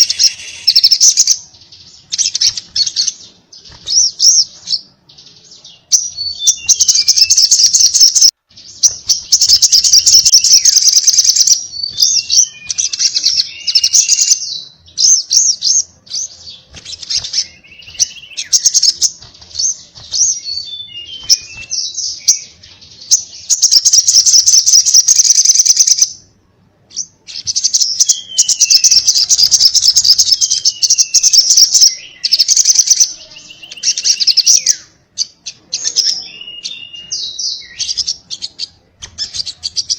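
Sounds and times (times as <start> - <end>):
bird trilled chatter: 0.0 - 4.4, 6.5 - 14.5, 16.6 - 26.2, 27.3 - 39.9.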